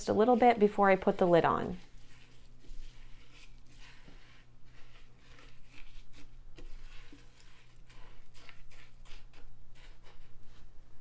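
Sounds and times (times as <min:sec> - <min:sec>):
spatula scraping in a pot: 0:00.0 - 0:10.7.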